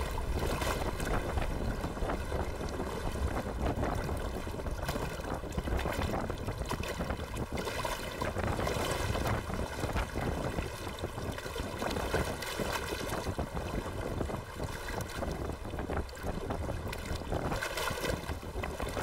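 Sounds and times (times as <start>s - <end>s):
water lapping against dock: 0.0s - 19.0s
wind buffeting microphone: 0.0s - 19.0s.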